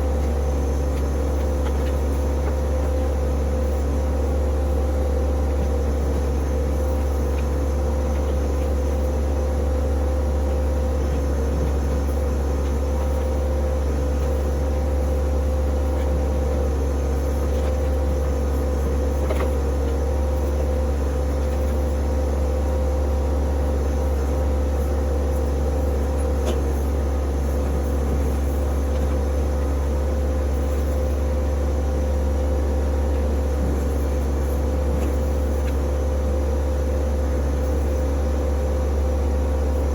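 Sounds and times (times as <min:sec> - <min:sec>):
tractor diesel engine humming: 0:00.0 - 0:39.9.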